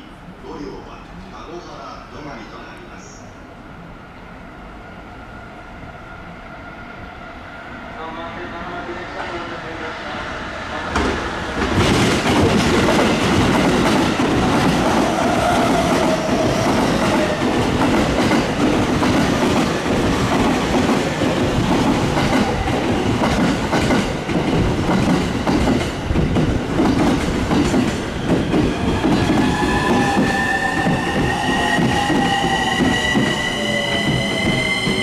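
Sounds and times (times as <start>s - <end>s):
train rumbling past: 0.0s - 35.0s.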